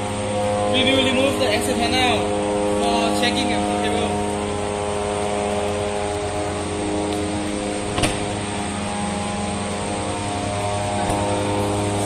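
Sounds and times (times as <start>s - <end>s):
steady machine drone: 0.0s - 12.0s.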